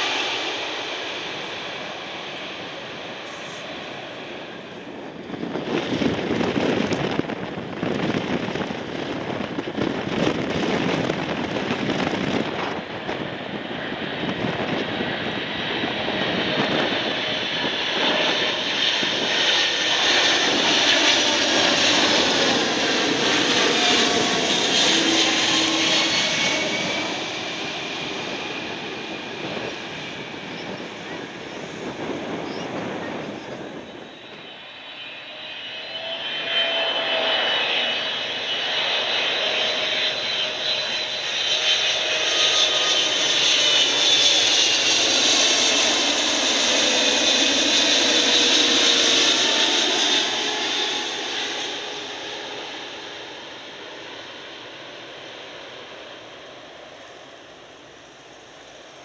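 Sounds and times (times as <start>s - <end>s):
jet engines roaring on landing: 0.0s - 59.0s
jet plane passing with whining drone: 0.0s - 59.0s.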